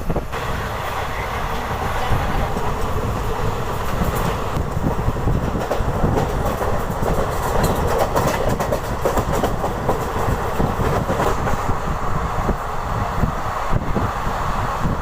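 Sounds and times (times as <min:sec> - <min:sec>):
train wheels clattering on rails: 0:00.0 - 0:13.3.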